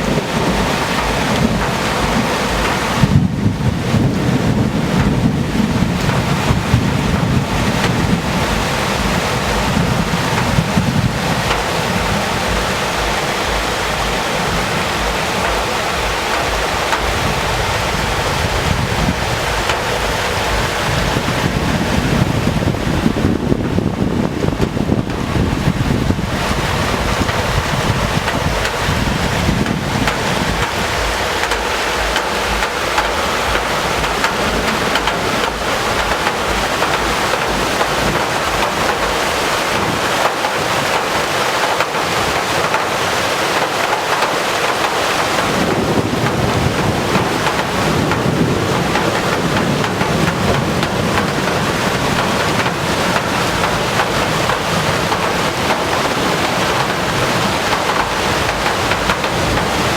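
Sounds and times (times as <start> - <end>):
heavy rain pouring: 0.0 - 59.9
wind buffeting microphone: 0.0 - 59.9.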